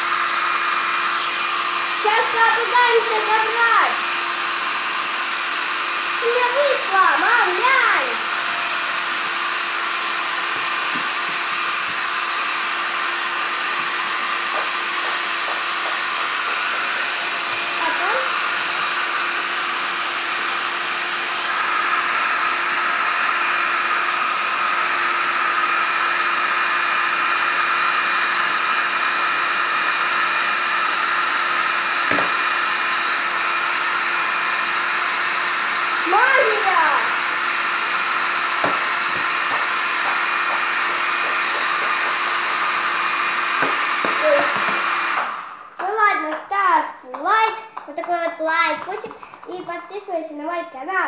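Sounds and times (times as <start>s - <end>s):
hair dryer blowing: 0.0s - 49.7s.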